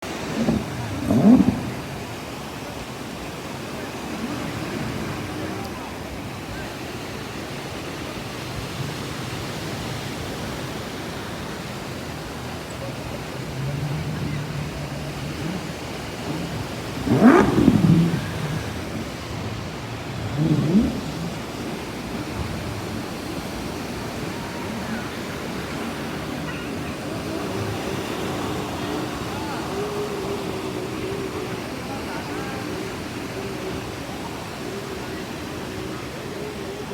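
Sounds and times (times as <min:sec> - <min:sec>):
beach surf: 0:00.0 - 0:36.9.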